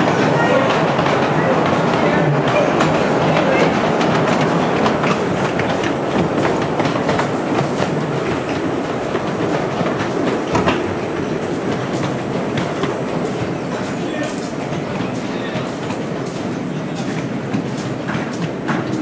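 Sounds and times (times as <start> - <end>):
train rolling rumble: 0.0 - 19.0
wheels clicking over rail joints: 0.0 - 19.0.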